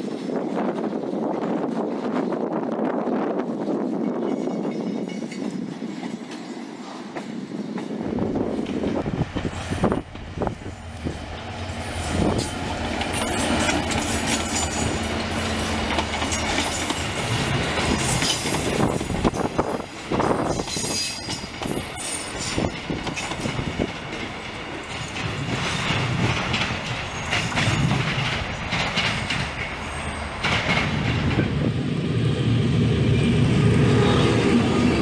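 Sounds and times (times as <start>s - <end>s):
diesel locomotive engine: 0.0s - 35.0s
train wheels clacking and squealing: 3.4s - 35.0s.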